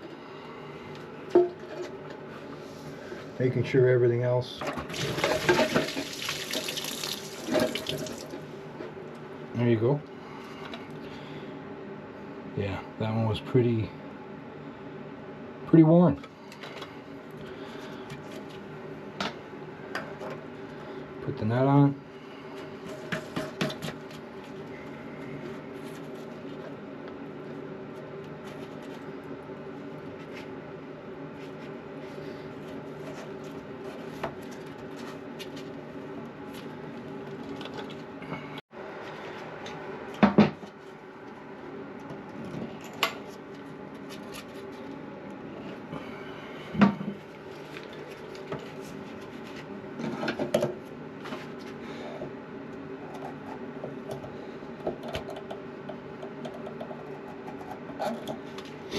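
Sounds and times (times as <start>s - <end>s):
steady low hum: 0.0s - 5.0s, 5.6s - 58.9s.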